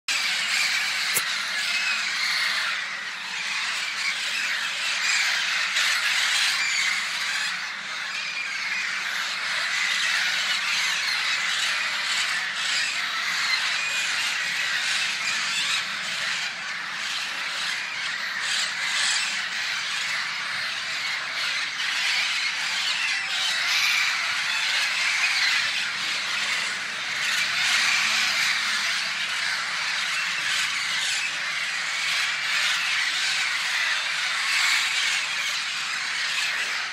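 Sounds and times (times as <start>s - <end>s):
flock of small birds chattering: 0.1s - 36.9s.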